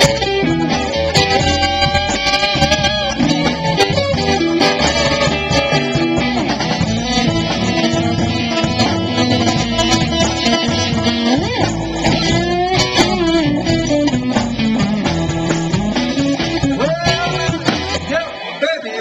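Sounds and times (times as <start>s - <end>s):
electric guitars playing rock and roll: 0.0s - 18.6s.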